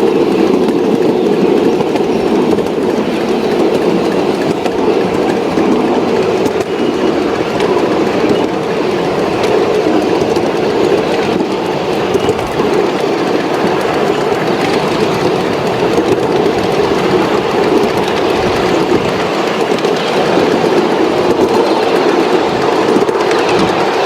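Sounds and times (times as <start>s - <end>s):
model train wheel clatter: 0.0s - 24.0s.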